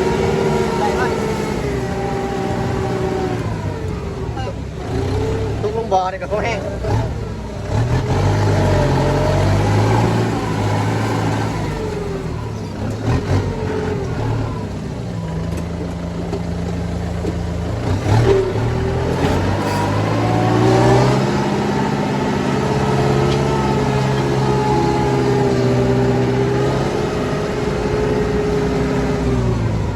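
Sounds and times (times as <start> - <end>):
tractor engine revving: 0.0 - 29.9.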